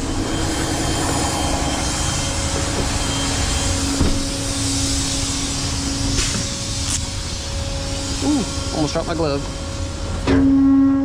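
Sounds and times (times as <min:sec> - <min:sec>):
tow truck engine and pump hum: 0:00.0 - 0:10.5.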